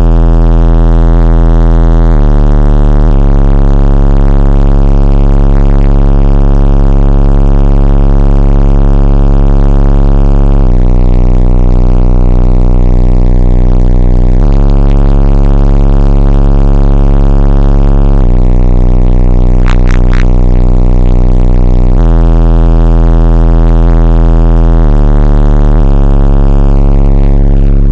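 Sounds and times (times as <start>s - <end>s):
deep bass from subwoofers: 0.0s - 27.9s.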